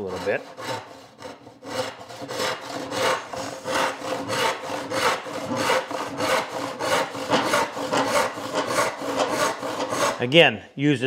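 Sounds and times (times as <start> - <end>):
hand saw cutting wood: 0.0 - 10.4.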